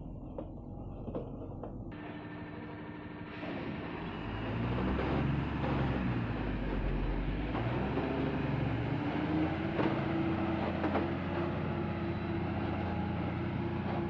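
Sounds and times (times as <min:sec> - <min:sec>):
truck diesel engine revving: 0:02.0 - 0:14.0.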